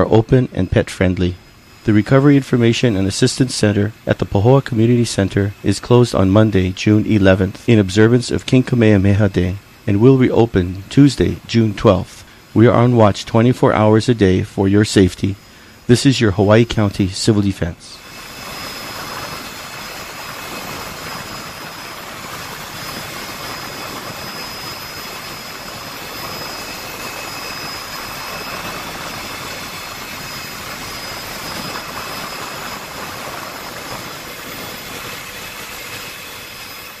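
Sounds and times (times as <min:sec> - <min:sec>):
faint high whine: 0:00.0 - 0:37.0
helicopter engine and rotor noise: 0:00.0 - 0:37.0.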